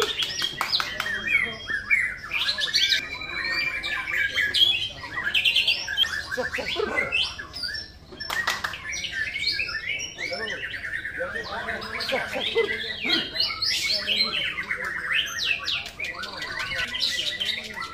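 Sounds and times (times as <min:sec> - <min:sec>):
songbirds singing in chorus: 0:00.0 - 0:17.9.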